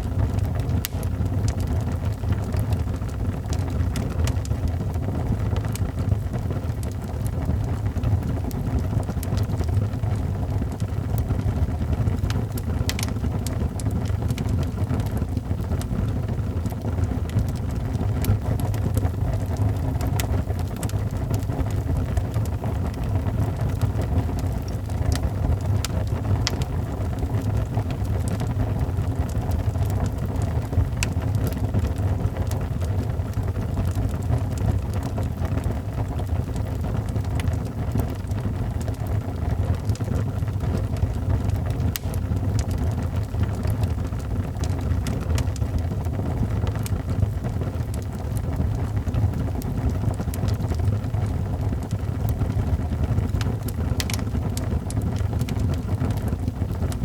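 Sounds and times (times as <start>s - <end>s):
fire crackling and popping: 0.0s - 57.0s
fire roaring low: 0.0s - 57.0s.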